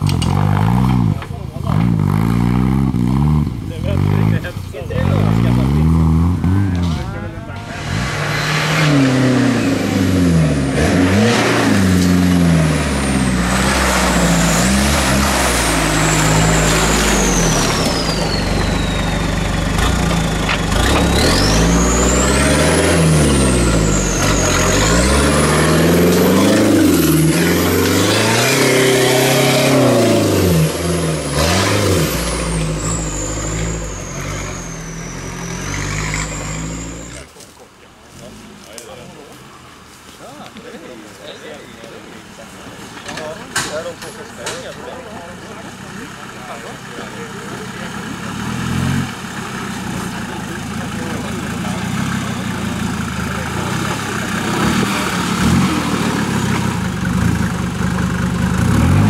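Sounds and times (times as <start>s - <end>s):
truck engine revving: 0.0s - 37.4s, 41.8s - 59.0s.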